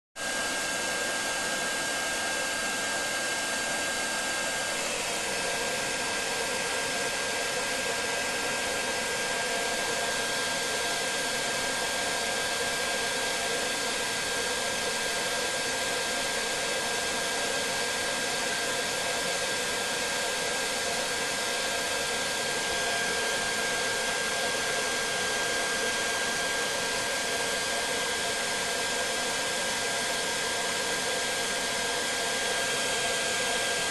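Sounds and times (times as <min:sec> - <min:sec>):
hair dryer running: 0:00.2 - 0:33.9.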